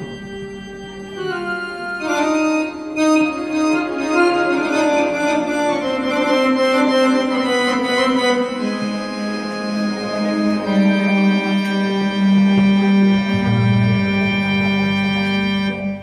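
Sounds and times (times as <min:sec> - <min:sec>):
electronic keyboard improvising: 0:00.0 - 0:16.0.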